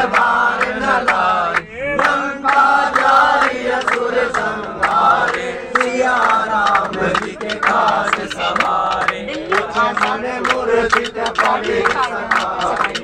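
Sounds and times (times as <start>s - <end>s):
group of men singing: 0.0s - 13.0s
hand claps: 0.0s - 13.0s.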